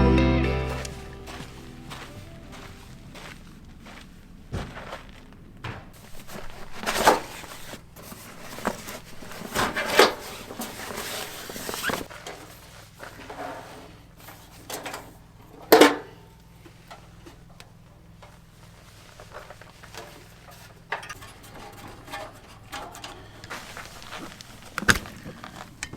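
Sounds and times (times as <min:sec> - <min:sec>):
camp gear rustling and clattering: 0:04.6 - 0:25.9.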